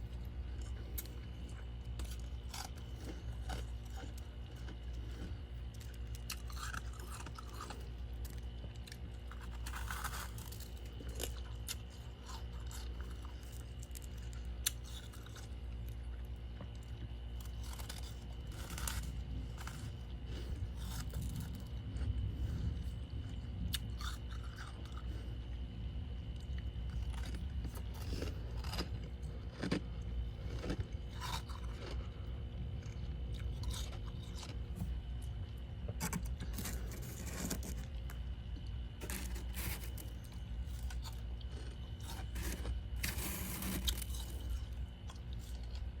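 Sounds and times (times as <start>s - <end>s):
frost being chewed: 0.0s - 46.0s
steady low hum: 0.0s - 46.0s.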